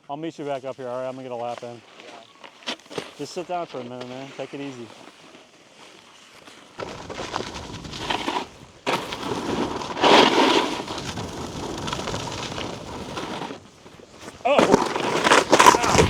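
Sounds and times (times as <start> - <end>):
snowboard scraping icy snow: 0.4 - 16.0.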